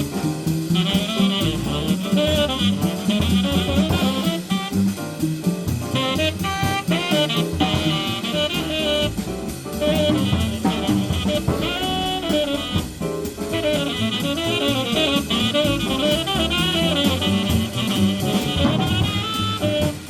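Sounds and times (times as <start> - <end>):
double bass: 0.0 - 20.0
drum kit: 0.0 - 20.0
piano: 0.0 - 20.0
tenor saxophone: 0.8 - 5.0, 6.0 - 20.0.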